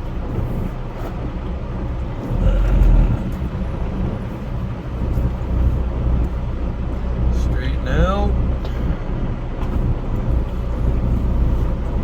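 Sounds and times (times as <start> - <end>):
freight train rumbling and rattling: 0.0 - 12.0.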